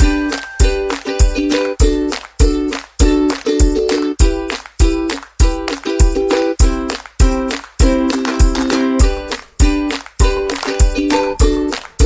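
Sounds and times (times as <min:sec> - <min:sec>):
upbeat music with plucked strings: 0:00.0 - 0:12.0.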